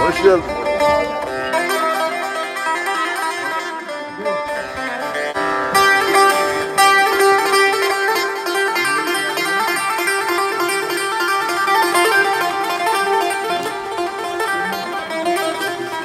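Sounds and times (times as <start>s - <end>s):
plucked string instrumental music: 0.0s - 16.0s.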